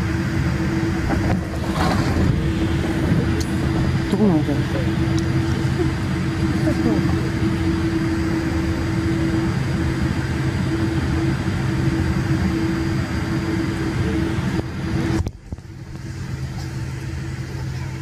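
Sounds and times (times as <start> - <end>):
airplane cabin engine drone: 0.0 - 18.0.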